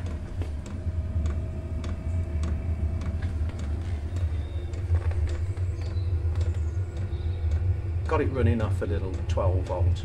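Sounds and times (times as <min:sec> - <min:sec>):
fuel pump ticking: 0:00.0 - 0:10.0
heater burner and fan roaring: 0:00.0 - 0:10.0.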